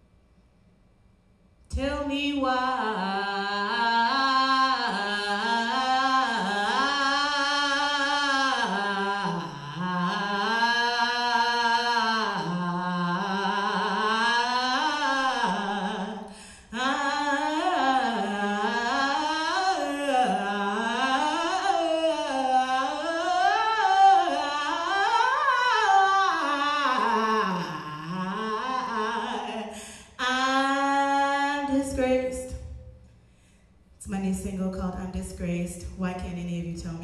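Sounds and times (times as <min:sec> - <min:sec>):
woman singing into microphone: 0:01.7 - 0:32.8, 0:34.0 - 0:37.0.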